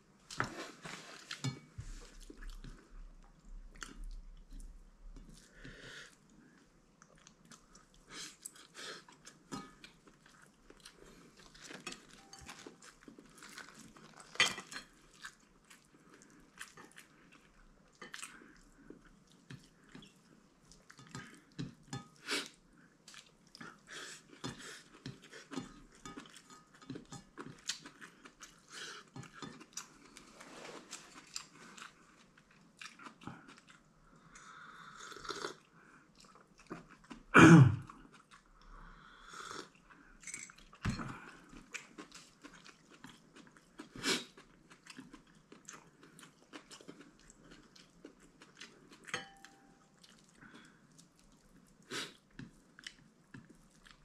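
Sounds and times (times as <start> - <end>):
person chewing and crunching food: 6.9 - 38.7, 39.4 - 54.0.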